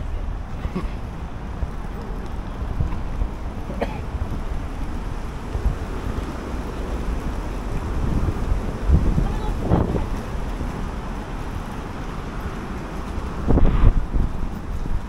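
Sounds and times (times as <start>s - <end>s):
low rumble of city noise: 0.0s - 15.0s
wind buffeting microphone: 0.0s - 15.0s.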